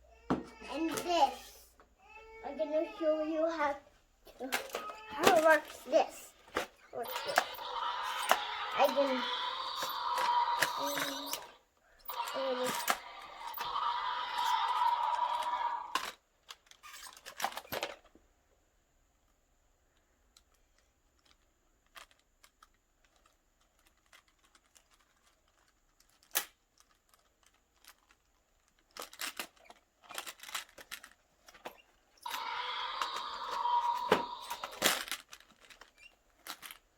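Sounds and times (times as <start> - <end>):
plastic toy clicks and rattles: 4.4 - 18.1, 20.3 - 36.9.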